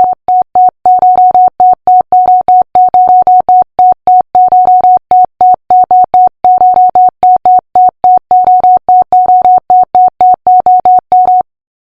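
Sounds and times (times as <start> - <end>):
short digital beeps: 0.0 - 11.5.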